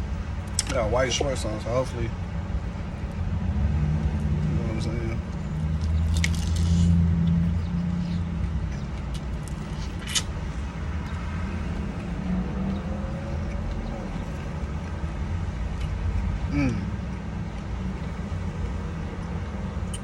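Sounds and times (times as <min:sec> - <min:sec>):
low motor rumble: 0:00.0 - 0:20.0.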